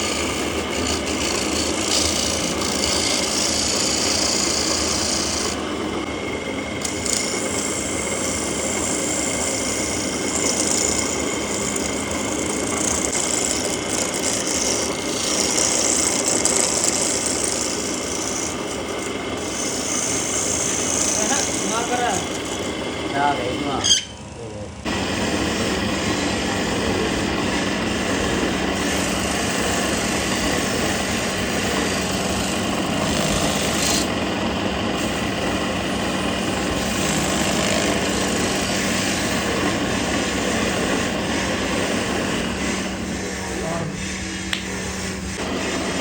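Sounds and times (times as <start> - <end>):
wood rasping with abrasive tool: 0.0 - 24.0, 24.8 - 46.0.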